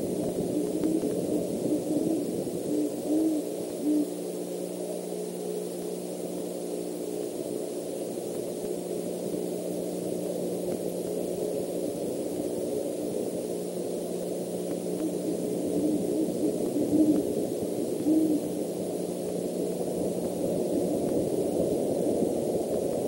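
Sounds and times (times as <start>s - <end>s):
faint steady hum: 0.0s - 23.0s
low rumbling background noise: 0.0s - 23.0s.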